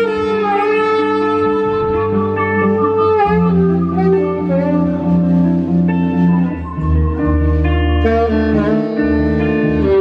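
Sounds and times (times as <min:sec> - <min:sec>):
bass line: 0:00.0 - 0:10.0
electric guitar: 0:00.0 - 0:10.0
saxophone: 0:00.0 - 0:10.0.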